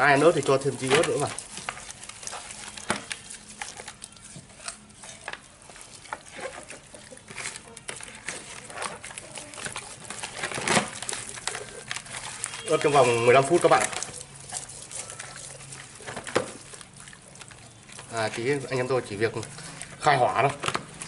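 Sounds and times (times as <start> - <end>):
hands squelching raw chicken: 0.0 - 21.0.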